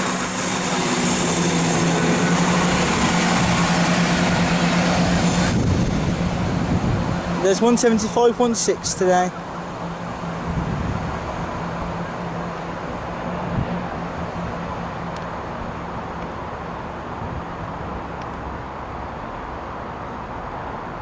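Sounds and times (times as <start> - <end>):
train rumble: 0.0 - 20.9
diesel train engine hum: 0.0 - 21.0.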